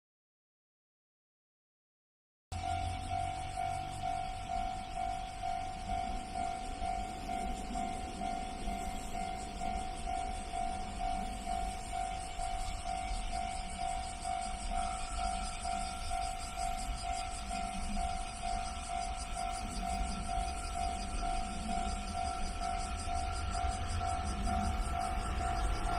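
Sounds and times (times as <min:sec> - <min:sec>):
level crossing warning bell: 0:02.5 - 0:25.9
low rumble: 0:02.6 - 0:25.9.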